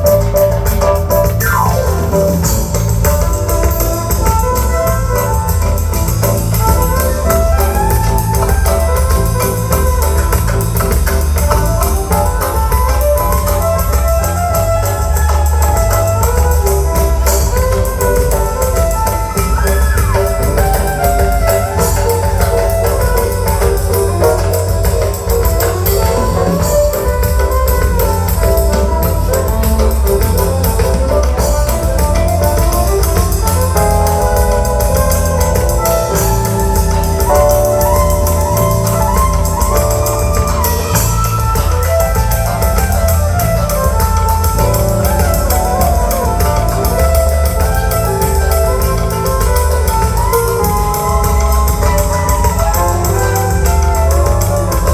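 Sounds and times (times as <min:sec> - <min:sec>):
melodic lead: 0:00.0 - 0:54.9
steady bass beat: 0:00.0 - 0:54.9.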